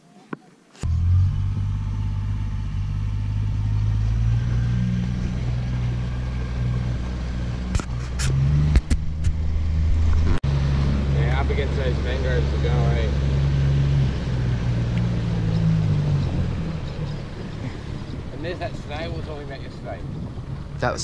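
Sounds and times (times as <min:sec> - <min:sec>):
outboard motor rumbling: 0:00.8 - 0:21.0.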